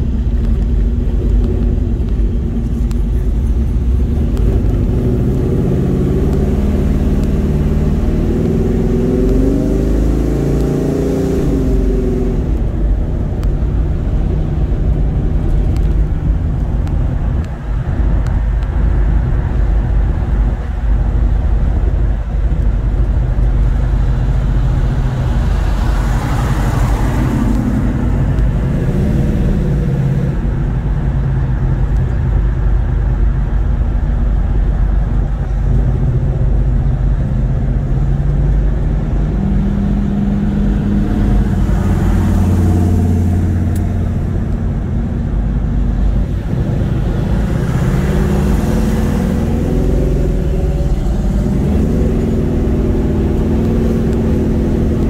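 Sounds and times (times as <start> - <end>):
car engine accelerating: 0.0 - 55.0
engine tyre and wind drone: 0.0 - 55.0.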